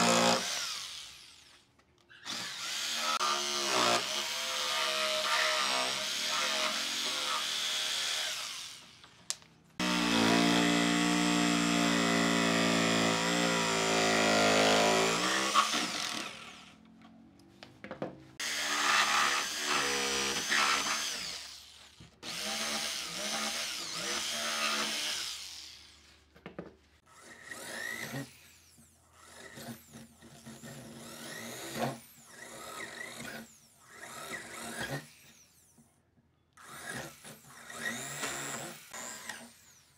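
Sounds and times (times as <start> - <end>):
electric power tool on wood: 0.0 - 17.0, 18.4 - 26.2, 27.2 - 35.8, 36.6 - 39.9.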